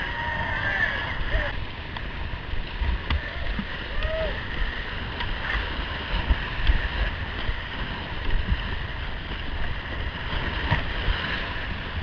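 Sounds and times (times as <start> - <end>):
low thumps of water: 0.0 - 12.0
water splashing over bow: 0.0 - 12.0
whitewater rapids rushing: 0.0 - 12.0
wind buffeting microphone: 0.0 - 12.0.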